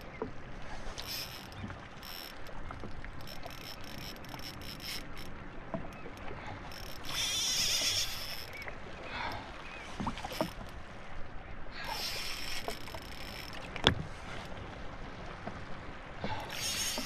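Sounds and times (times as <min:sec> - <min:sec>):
water lapping against hull: 0:00.0 - 0:17.0.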